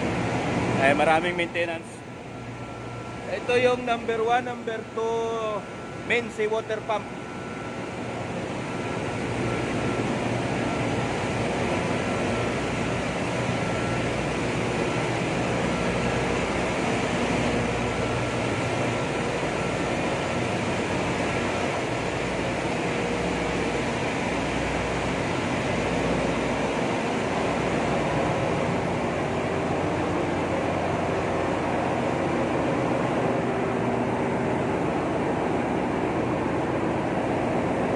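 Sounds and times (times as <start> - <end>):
engine room machinery din: 0.0 - 37.9.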